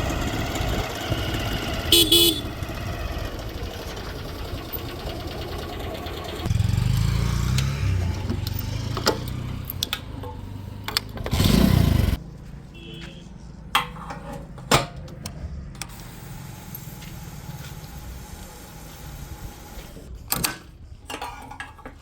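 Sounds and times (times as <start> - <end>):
diesel engine rumbling: 0.0 - 20.3.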